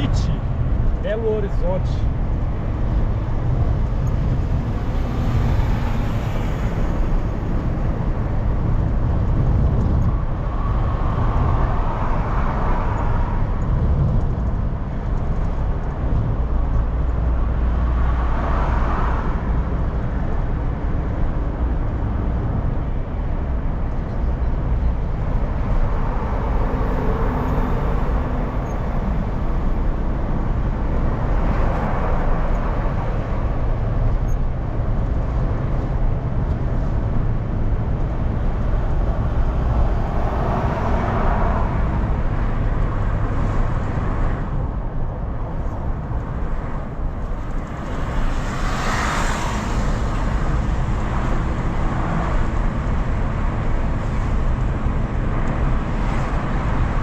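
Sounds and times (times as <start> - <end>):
car engine hum: 0.0 - 57.0
tyre road noise: 0.0 - 57.0.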